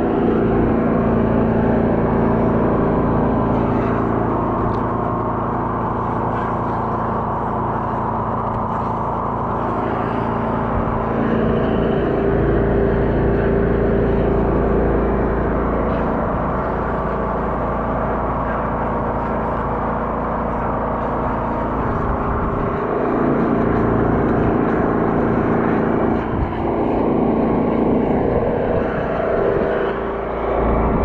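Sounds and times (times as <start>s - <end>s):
drain jetter engine running: 0.0s - 31.0s.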